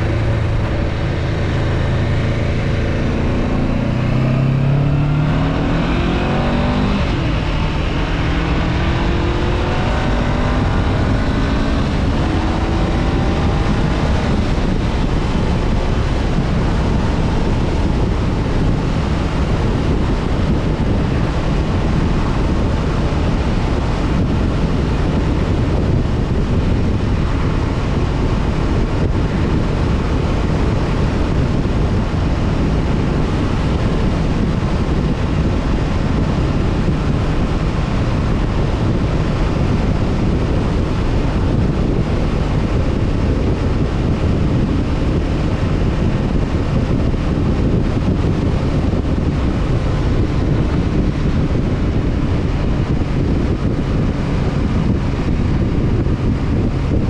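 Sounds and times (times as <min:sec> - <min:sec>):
motorcycle engine accelerating: 0:00.0 - 0:57.0
wind rushing over microphone: 0:00.0 - 0:57.0.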